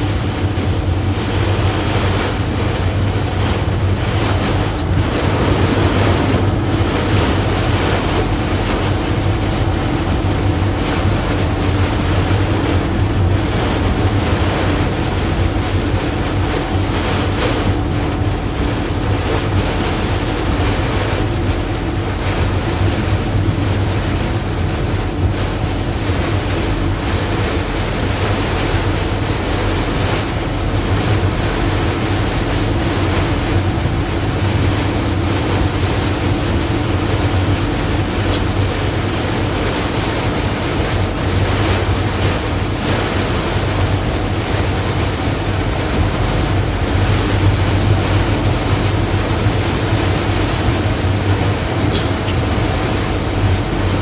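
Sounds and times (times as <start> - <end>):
heavy rain falling: 0.0 - 54.0
steady low hum: 0.0 - 54.0.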